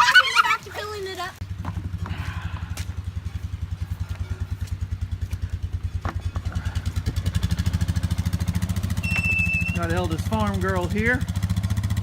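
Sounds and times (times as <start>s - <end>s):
small engine idling: 1.4s - 12.0s.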